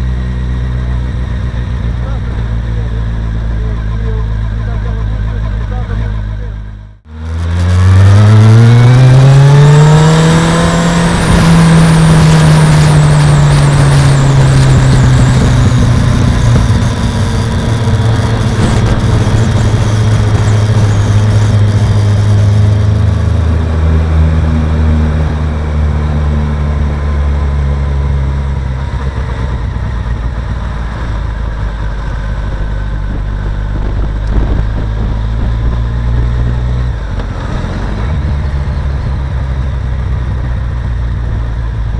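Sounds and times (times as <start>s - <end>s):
motorcycle engine running hard: 0.0s - 41.9s.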